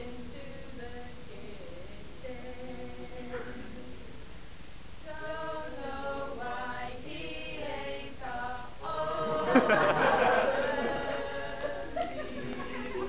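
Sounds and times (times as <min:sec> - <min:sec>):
group singing unaccompanied: 0:00.0 - 0:04.1, 0:05.0 - 0:13.0.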